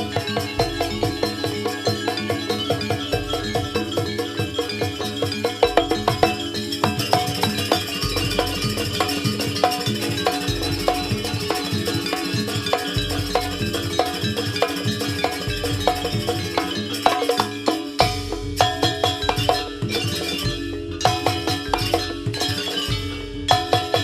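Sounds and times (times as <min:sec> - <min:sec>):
gamelan music: 0:00.0 - 0:24.0.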